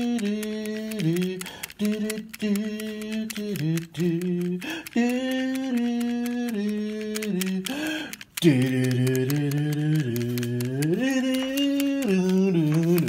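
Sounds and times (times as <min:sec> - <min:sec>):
person singing slow tune: 0:00.0 - 0:13.0.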